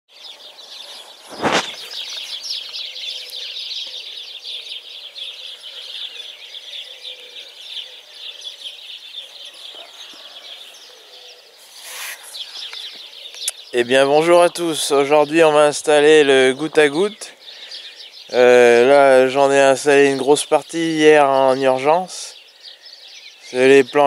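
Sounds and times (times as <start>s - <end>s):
birds chirping and singing: 0.1s - 24.0s.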